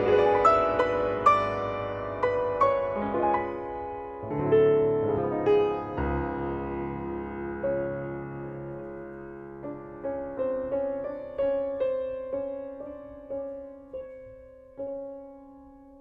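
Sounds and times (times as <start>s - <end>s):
slow quiet piano: 0.0s - 16.0s.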